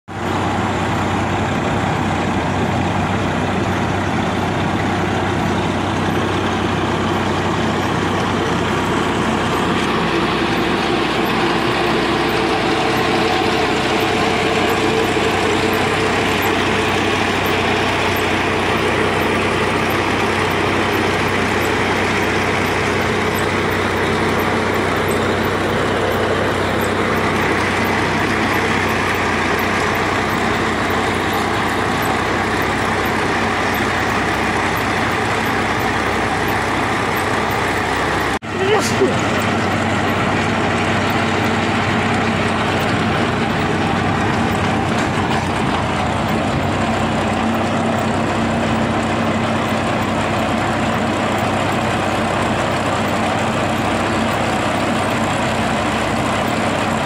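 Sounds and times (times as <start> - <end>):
tractor diesel engine running: 0.1 - 57.0
trencher chain cutting soil: 4.3 - 57.0.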